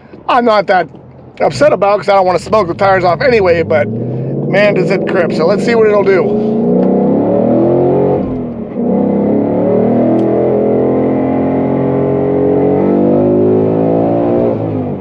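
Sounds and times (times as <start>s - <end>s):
car engine accelerating hard: 1.4s - 15.0s.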